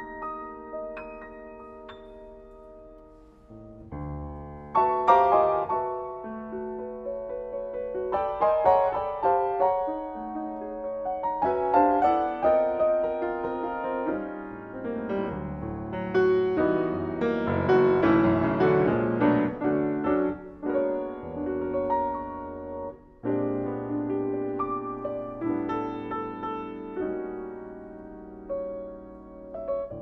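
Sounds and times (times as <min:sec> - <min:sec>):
solo jazz piano: 0:00.0 - 0:30.0.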